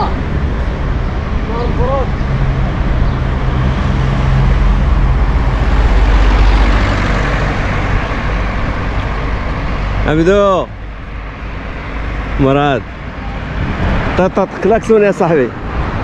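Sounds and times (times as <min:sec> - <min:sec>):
wind noise: 0:00.0 - 0:10.0, 0:10.7 - 0:16.0
car passing close: 0:00.0 - 0:16.0.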